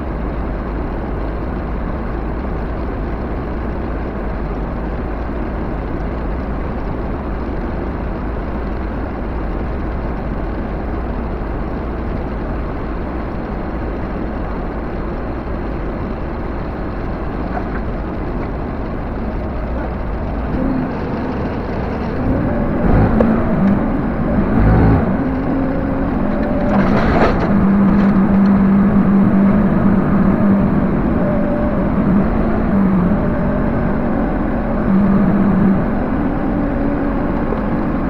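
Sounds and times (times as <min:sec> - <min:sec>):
backhoe engine running: 0:00.0 - 0:38.0.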